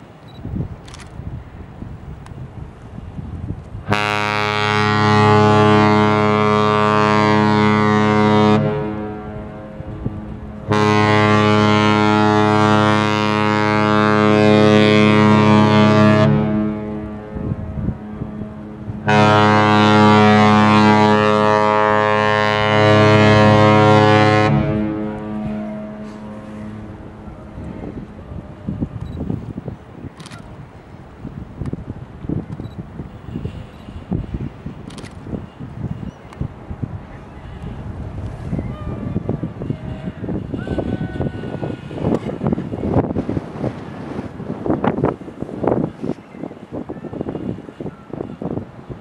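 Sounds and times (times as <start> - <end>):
ship horn blasts: 3.8 - 29.3, 33.2 - 49.0.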